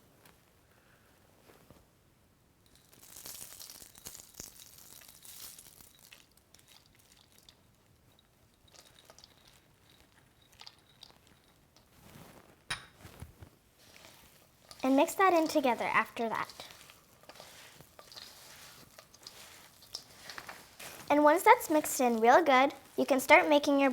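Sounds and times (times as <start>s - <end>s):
seeds and nuts crackling into bowl: 2.7s - 12.4s, 13.8s - 23.9s.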